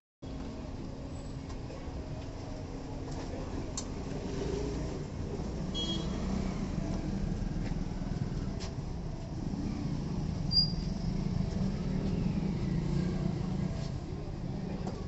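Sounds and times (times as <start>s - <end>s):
street traffic rumble: 0.2s - 15.0s.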